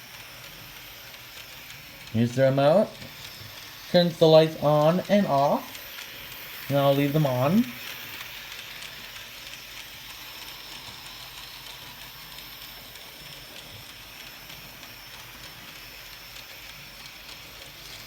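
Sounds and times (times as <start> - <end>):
model train whirring and rattling: 0.0 - 18.0.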